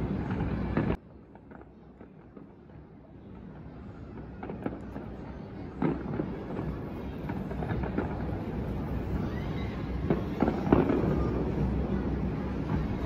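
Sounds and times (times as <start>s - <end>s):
distant fireworks bangs and pops: 0.0s - 13.0s.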